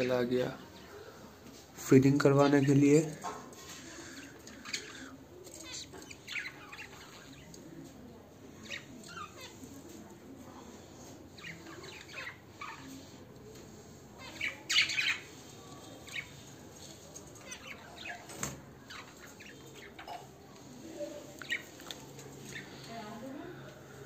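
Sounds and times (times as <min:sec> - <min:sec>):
budgies chirping: 0:02.1 - 0:23.0.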